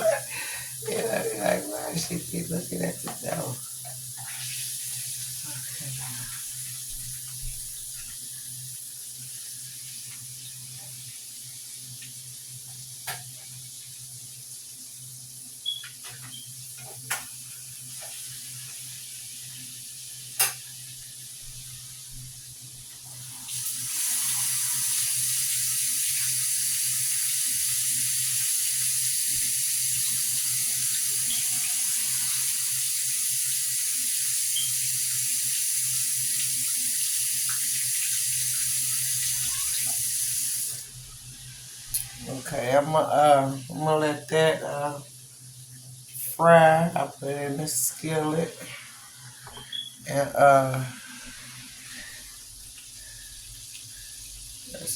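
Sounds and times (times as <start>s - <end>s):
chicken sizzling in oil: 0.0s - 42.2s, 43.0s - 54.9s.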